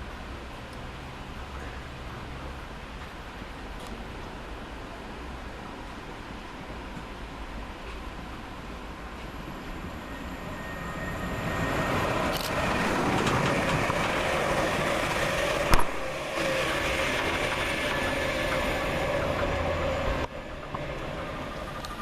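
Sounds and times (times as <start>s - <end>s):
electric train passing at speed: 4.4s - 22.0s.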